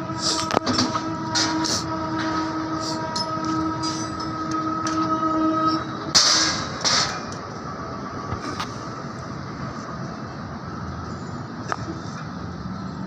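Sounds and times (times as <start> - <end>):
mechanical drone with held tones: 0.0 - 13.0.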